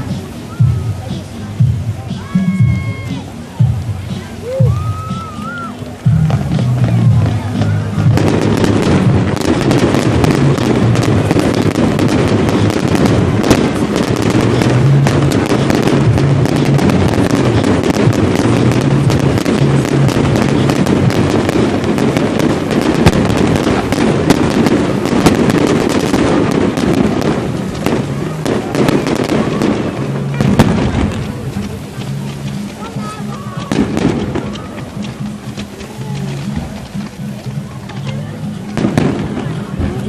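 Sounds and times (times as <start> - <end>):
fireworks crackling and banging: 0.0 - 40.0
sharp firework reports: 0.0 - 40.0.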